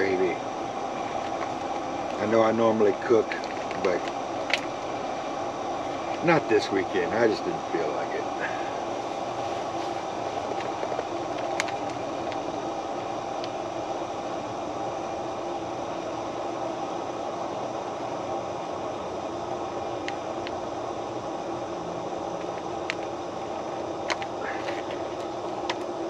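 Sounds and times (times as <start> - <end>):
camp stove burner roaring: 0.0 - 26.0.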